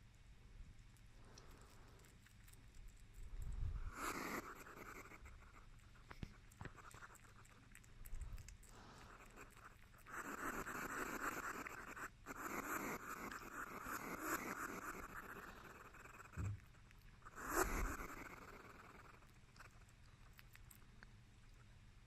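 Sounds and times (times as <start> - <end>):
hedgehog chewing and crunching: 0.0 - 21.8.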